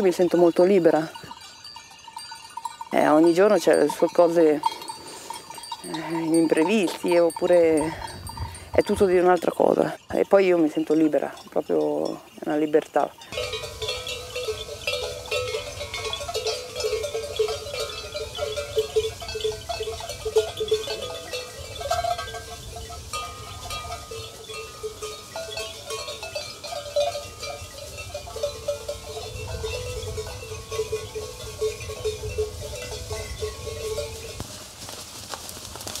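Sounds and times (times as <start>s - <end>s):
sheep bells clinking: 0.0s - 36.0s.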